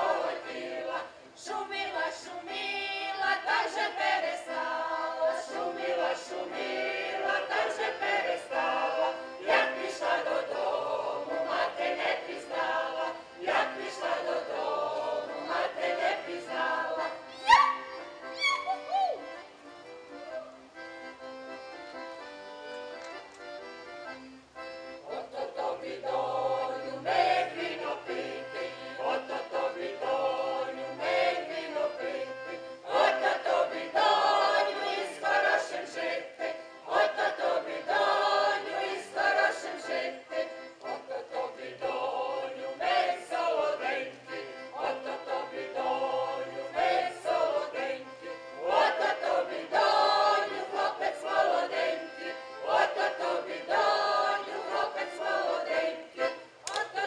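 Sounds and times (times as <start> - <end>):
group of voices singing: 0.0 - 17.8, 25.0 - 57.0.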